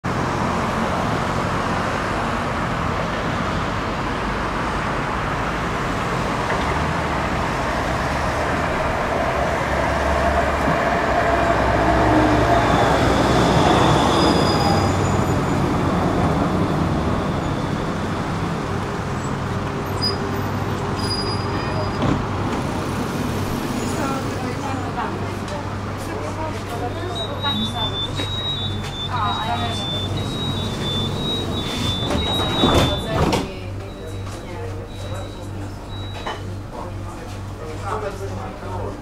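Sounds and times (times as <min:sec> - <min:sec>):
road traffic: 0:00.0 - 0:39.0
tram braking: 0:00.1 - 0:38.5.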